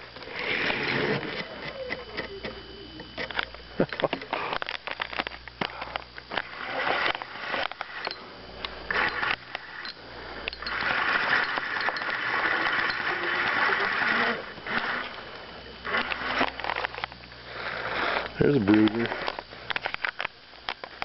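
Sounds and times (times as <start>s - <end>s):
fishing reel ticking and whirring: 0.0s - 21.0s.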